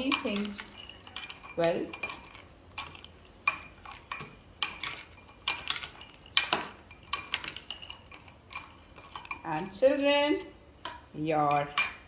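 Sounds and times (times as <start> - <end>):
spoons clinking against glass bowl: 0.0 - 10.1, 10.9 - 12.0.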